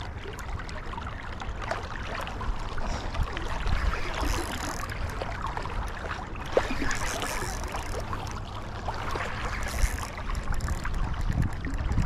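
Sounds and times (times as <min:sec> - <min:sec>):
river water flowing: 0:00.0 - 0:12.0
wind rumble on microphone: 0:00.0 - 0:12.0.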